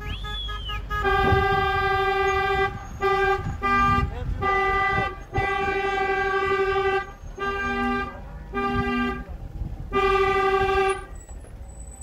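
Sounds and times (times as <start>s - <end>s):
lower-pitched car horn: 0.0s - 11.2s
car horns honking: 0.0s - 11.3s.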